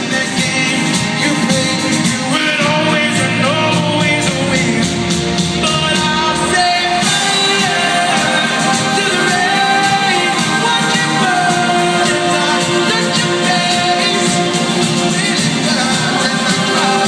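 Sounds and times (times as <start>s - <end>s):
live band playing pop: 0.0s - 17.0s
man singing: 0.0s - 17.0s.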